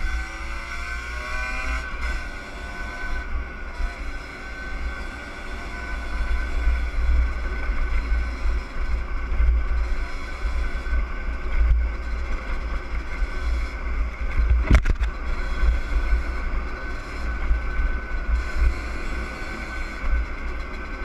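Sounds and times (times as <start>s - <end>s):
two-stroke motorcycle engine: 0.0s - 21.0s
wind rumble on microphone: 0.0s - 21.0s.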